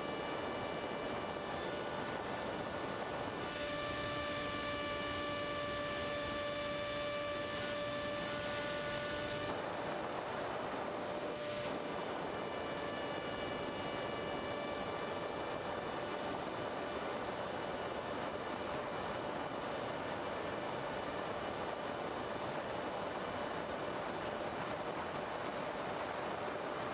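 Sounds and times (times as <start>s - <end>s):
electric motor whine: 0.0s - 26.9s.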